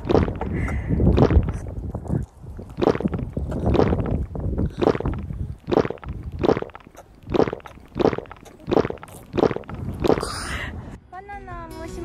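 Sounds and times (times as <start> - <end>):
toddler gulping water: 0.0 - 10.5.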